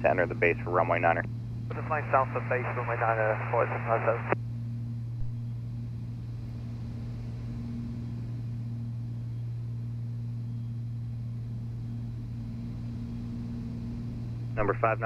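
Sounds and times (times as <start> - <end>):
aircraft cabin engine drone: 0.0 - 15.0.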